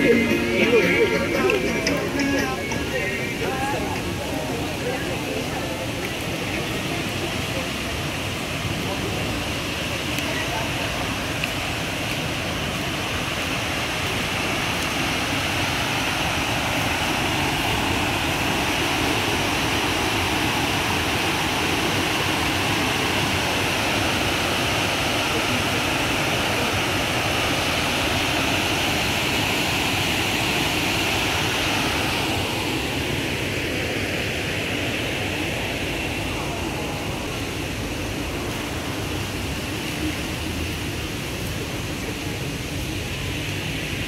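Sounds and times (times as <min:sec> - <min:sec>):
water rushing over weir: 0:00.0 - 0:44.0.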